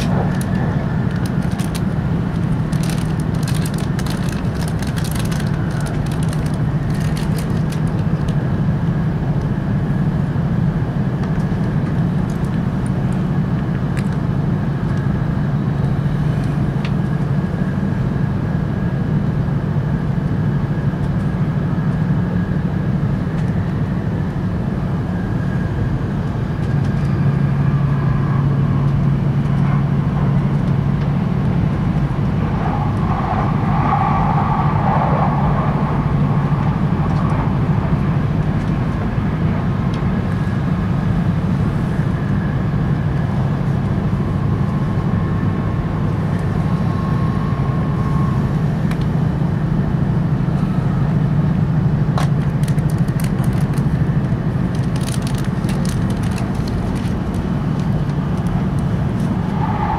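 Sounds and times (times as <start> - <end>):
train cabin rumble and hum: 0.0 - 59.9.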